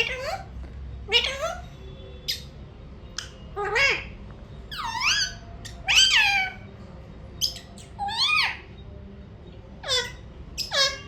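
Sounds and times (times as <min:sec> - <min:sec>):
parakeet calling: 0:00.0 - 0:08.9, 0:09.7 - 0:11.0.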